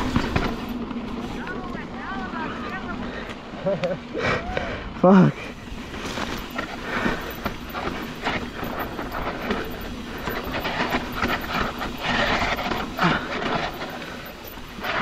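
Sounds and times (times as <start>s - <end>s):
bike tyres crunching on dirt: 0.0s - 4.2s, 4.8s - 15.0s
bike rattling: 0.0s - 15.0s.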